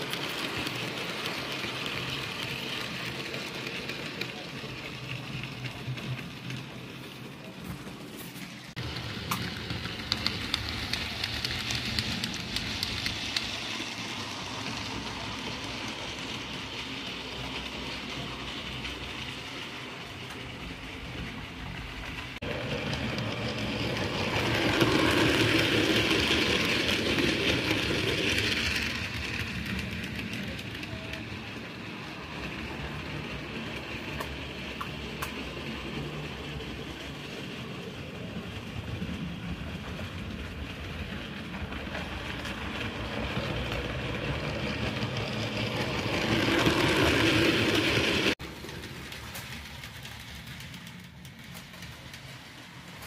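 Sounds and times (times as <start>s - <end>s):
wheels rattling on rail: 0.0s - 53.0s
whir of small motors: 0.0s - 53.0s.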